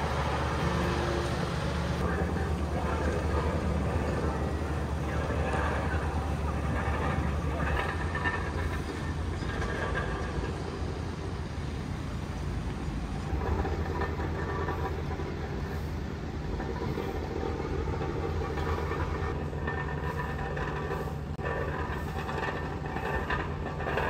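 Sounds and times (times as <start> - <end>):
construction machinery: 0.0 - 24.0
traffic rumble: 0.0 - 24.0.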